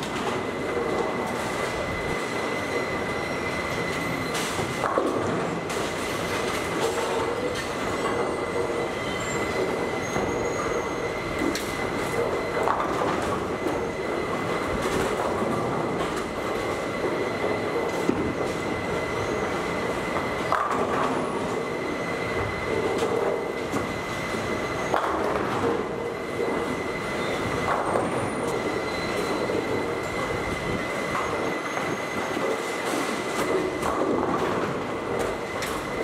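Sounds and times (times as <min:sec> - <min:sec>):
bowling balls rolling: 0:00.0 - 0:36.0.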